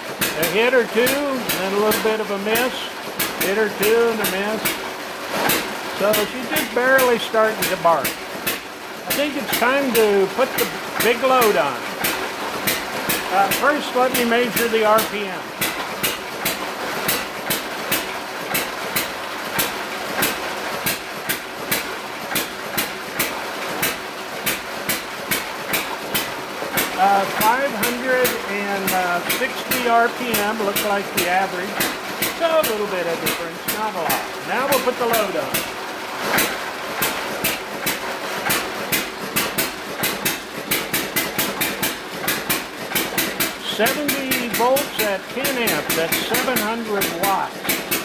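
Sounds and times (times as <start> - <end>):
hit-and-miss engine firing: 0.0 - 48.0.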